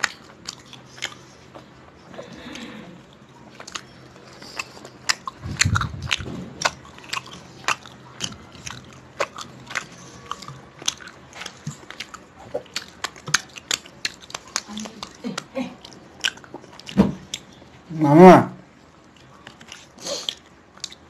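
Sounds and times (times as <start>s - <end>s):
person chewing and lip-smacking: 0.0s - 17.9s, 18.8s - 21.0s.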